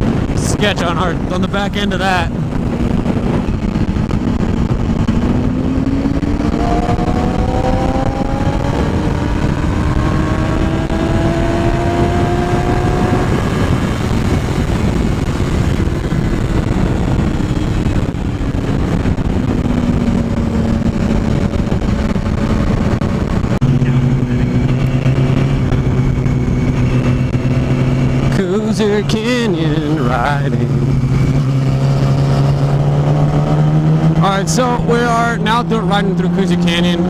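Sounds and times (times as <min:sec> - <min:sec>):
heavy wind noise: 0:00.0 - 0:37.0
road noise: 0:00.0 - 0:37.0
vehicle engine revving: 0:00.0 - 0:37.0.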